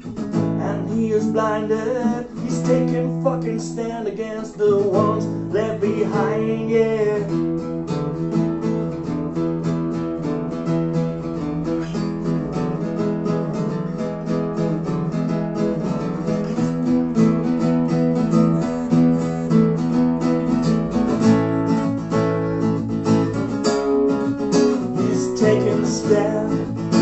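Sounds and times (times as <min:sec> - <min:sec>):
acoustic guitars strumming: 0:00.0 - 0:27.0.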